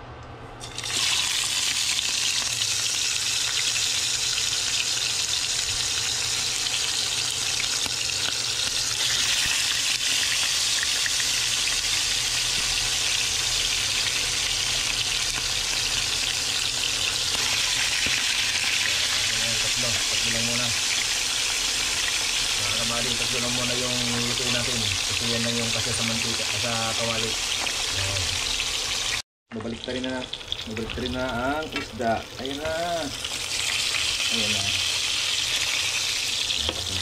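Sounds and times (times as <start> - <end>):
fish sizzling in hot oil: 0.6 - 37.0.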